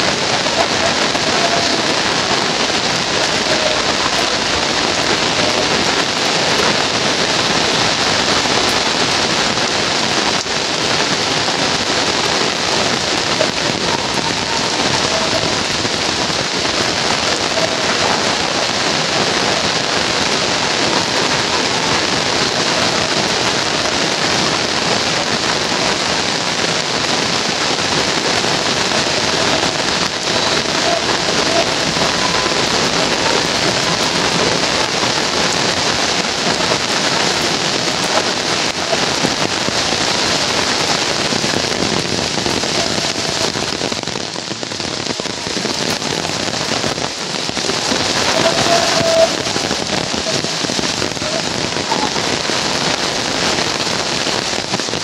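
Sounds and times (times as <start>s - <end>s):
heavy rain on wet road: 0.0s - 55.0s.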